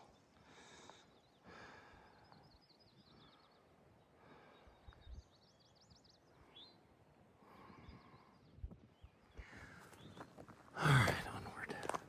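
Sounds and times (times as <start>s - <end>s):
faint high bird chirping: 0.0s - 10.4s.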